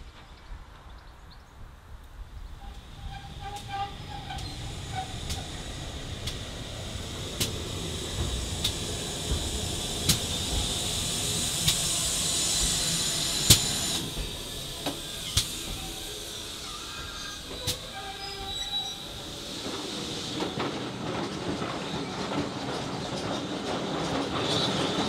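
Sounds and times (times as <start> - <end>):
steam locomotive hissing: 2.5 - 25.0.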